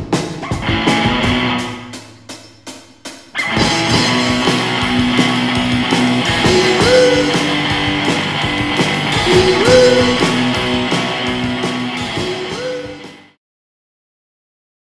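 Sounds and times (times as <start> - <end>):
rock music with guitar and drums: 0.0 - 13.4.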